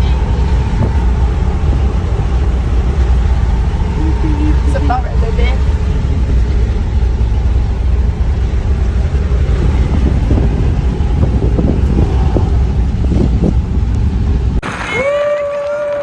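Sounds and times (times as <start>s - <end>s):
wind buffeting microphone: 0.0s - 14.6s.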